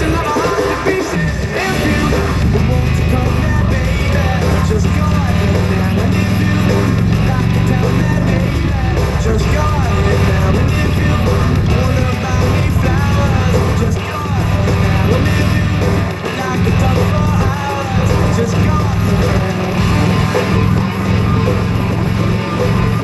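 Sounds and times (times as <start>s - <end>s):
person singing: 0.0s - 23.0s
rock music: 0.0s - 23.0s
low bass: 1.7s - 23.0s.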